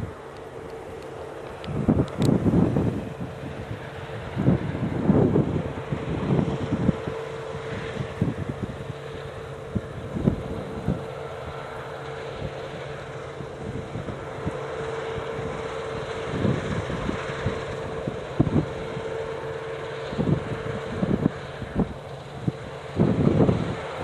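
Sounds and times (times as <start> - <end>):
wind buffeting microphone: 0.0 - 11.6, 12.3 - 24.0
distant combine harvester hum: 0.0 - 24.0.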